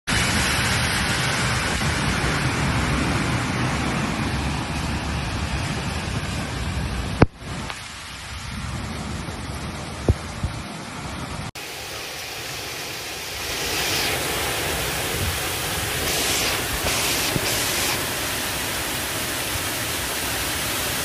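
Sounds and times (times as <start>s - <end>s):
heavy rain pouring: 0.1s - 21.0s.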